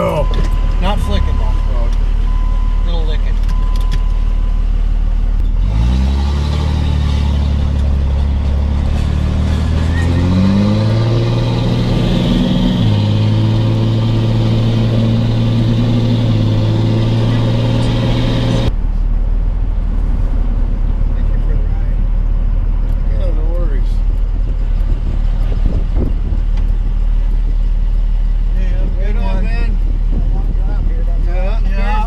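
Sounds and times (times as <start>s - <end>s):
vehicle engine accelerating: 3.5s - 32.0s.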